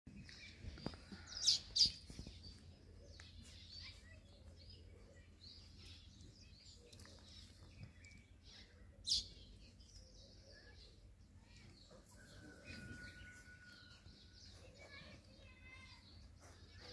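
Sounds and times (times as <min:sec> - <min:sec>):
wild birds chirping: 0:00.1 - 0:16.9.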